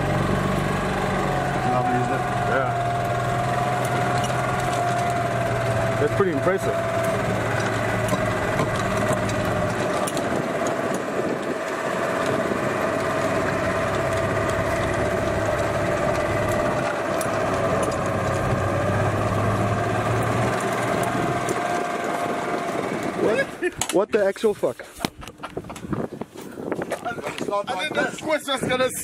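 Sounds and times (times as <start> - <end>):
golf cart motor whining: 0.0 - 24.0.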